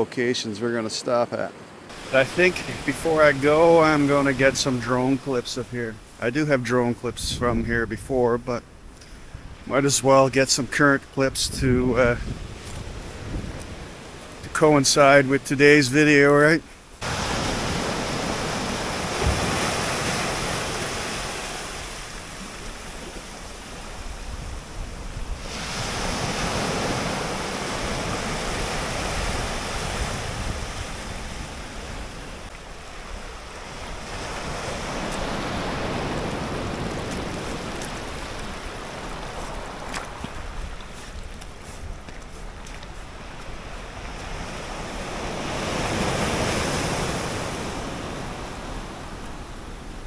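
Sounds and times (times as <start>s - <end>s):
waves breaking on a beach: 0.0s - 50.0s.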